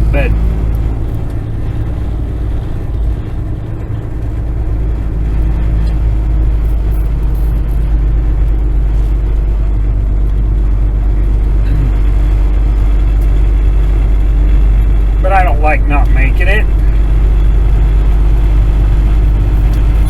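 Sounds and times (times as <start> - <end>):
truck diesel engine pulling uphill: 0.0 - 20.0.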